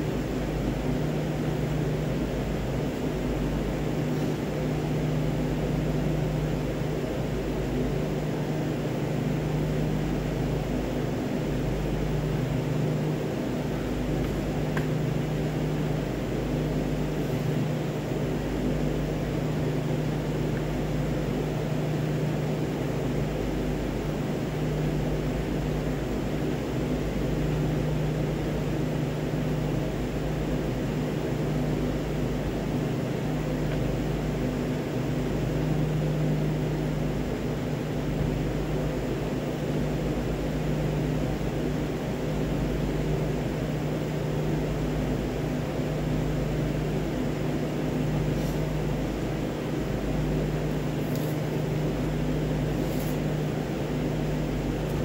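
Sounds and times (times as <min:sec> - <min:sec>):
fan rushing: 0:00.0 - 0:55.0
machinery humming: 0:00.0 - 0:55.0.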